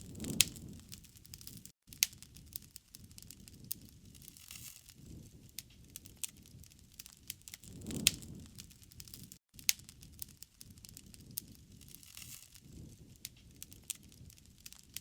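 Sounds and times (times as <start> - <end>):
low fire flicker: 0.0 - 15.0
wood fire crackling and popping: 0.0 - 15.0.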